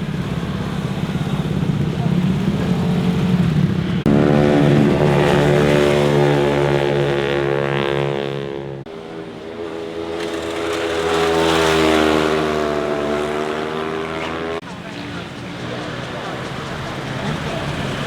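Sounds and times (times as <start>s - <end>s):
motorcycle engines passing: 0.0s - 18.0s.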